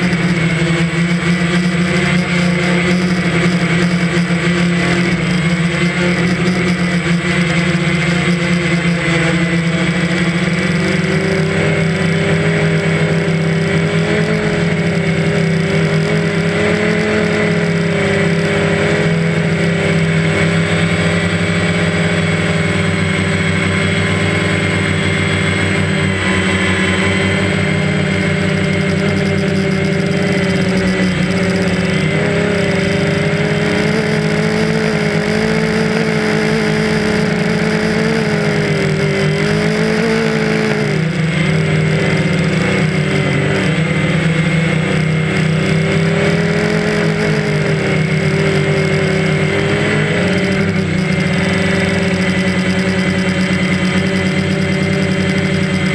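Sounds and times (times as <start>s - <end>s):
drone motors whining buzz: 0.0s - 55.9s.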